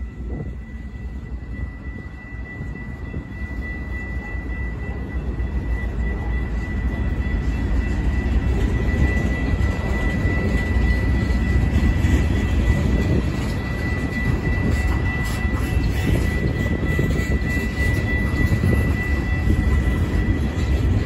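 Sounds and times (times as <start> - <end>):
high-pitched tone: 0.0 - 21.0
steel wheels rumbling on rail: 0.0 - 21.0.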